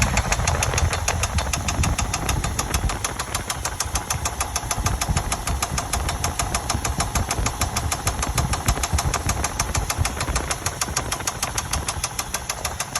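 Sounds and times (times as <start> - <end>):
engine idling with rapid ticking: 0.0 - 12.9.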